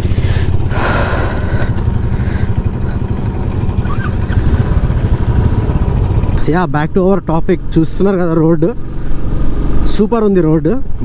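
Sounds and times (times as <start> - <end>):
single-cylinder engine running: 0.0 - 11.0.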